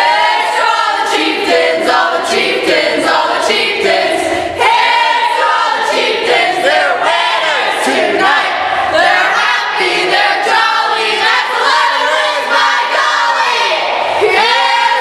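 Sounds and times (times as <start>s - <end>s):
girls singing in unison: 0.0s - 15.0s.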